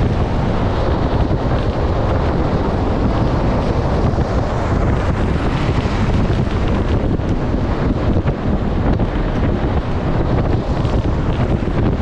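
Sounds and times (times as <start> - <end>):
road noise: 0.0 - 12.0
wind rushing over microphone: 0.0 - 12.0.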